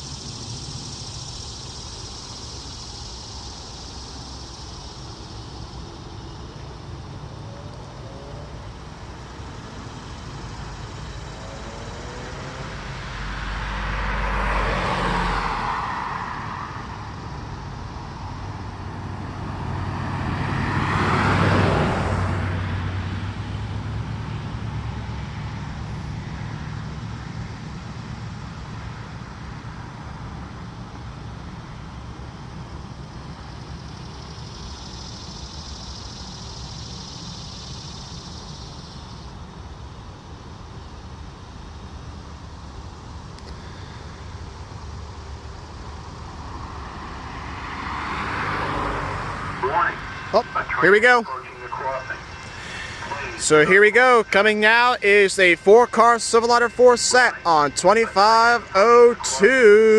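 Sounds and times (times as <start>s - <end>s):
background traffic hum: 0.0s - 59.9s
road vehicles passing: 0.0s - 59.9s.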